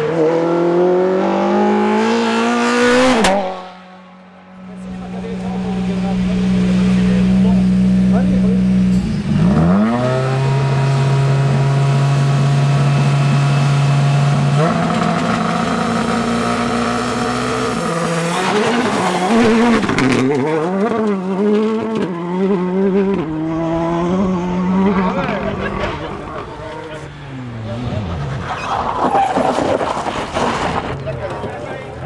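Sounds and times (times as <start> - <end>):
rally car engine revving: 0.0 - 3.8, 4.6 - 32.0.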